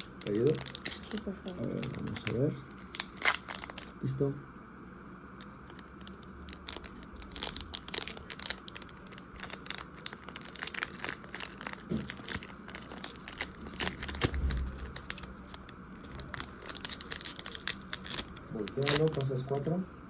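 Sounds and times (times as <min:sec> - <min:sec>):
foil wrapper crinkling and tearing: 0:00.0 - 0:04.1, 0:05.4 - 0:19.7.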